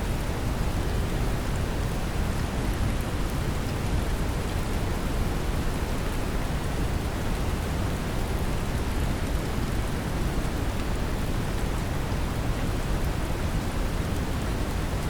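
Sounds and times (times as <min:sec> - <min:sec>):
brown noise rumbling hiss: 0:00.0 - 0:15.0
gentle rain patter: 0:00.0 - 0:15.0.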